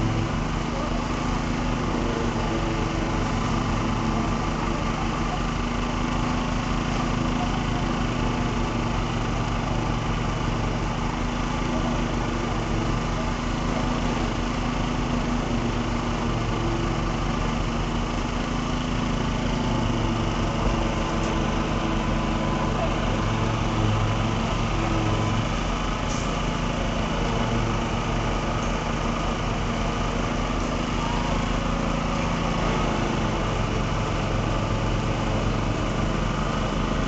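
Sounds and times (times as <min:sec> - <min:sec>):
engine running steadily: 0:00.0 - 0:37.0.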